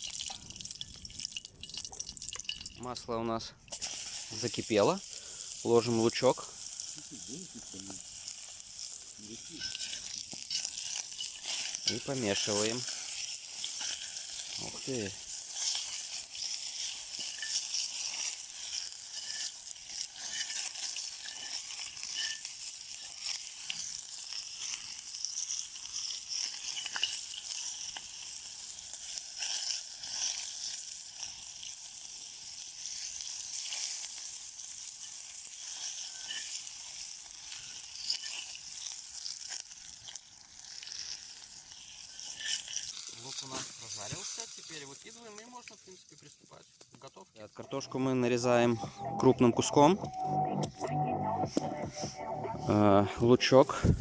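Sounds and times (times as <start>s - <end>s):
onion sizzling in hot oil: 0.0s - 3.0s, 3.6s - 48.6s.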